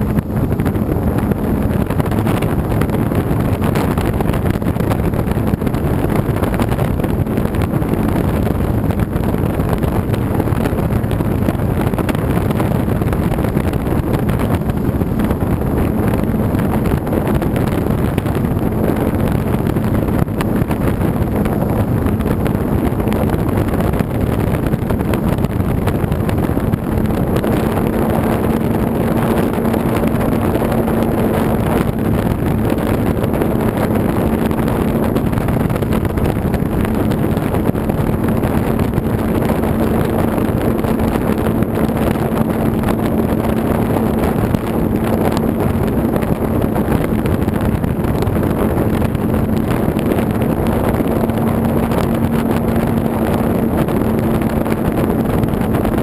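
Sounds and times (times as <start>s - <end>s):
wind rush over microphone: 0.0s - 56.0s.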